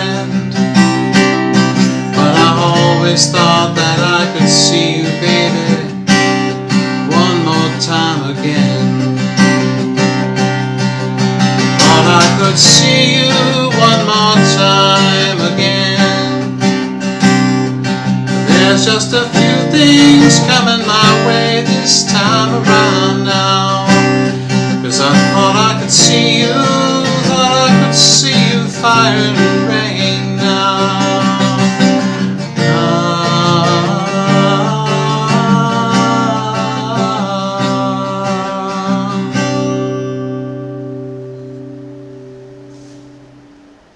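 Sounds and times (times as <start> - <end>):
acoustic guitar music: 0.0 - 43.9.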